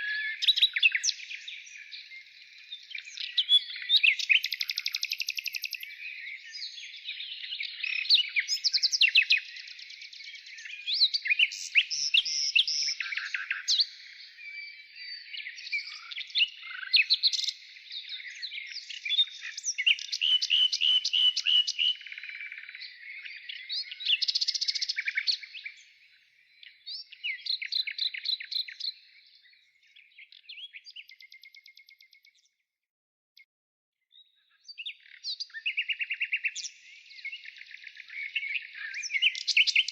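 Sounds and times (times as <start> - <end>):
songbirds chirping and twittering: 0.0 - 32.8, 33.4 - 39.9.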